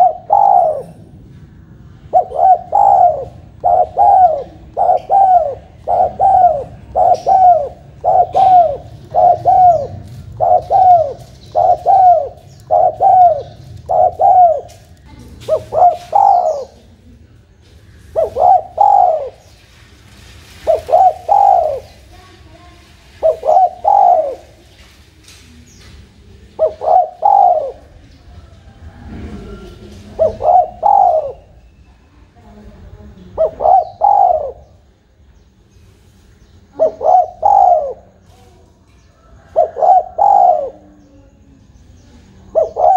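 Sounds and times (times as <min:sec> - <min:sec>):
dove cooing: 0:00.0 - 0:17.1, 0:17.8 - 0:19.6, 0:20.5 - 0:22.2, 0:23.1 - 0:24.8, 0:25.7 - 0:31.6, 0:33.2 - 0:34.9, 0:36.7 - 0:38.4, 0:39.1 - 0:41.4, 0:42.3 - 0:42.9.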